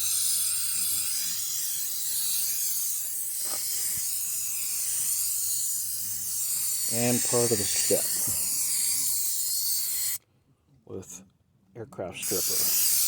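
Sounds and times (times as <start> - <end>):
aerosol can spraying hiss: 0.0 - 10.2, 12.2 - 13.0.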